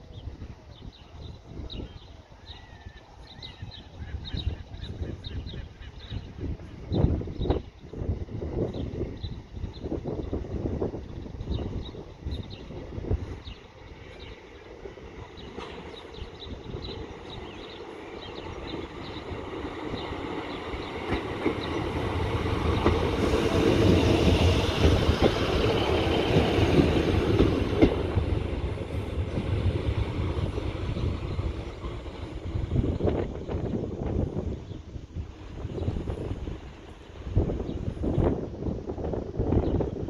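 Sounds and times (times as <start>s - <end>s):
diesel train engine: 4.5s - 40.0s
train wheels on rails: 5.8s - 40.0s.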